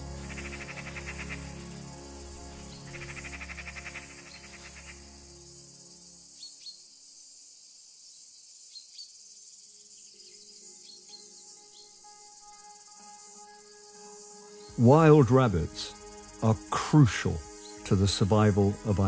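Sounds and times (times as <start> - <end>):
soft background music: 0.0 - 6.7, 9.6 - 19.0
insect chorus: 0.0 - 19.0.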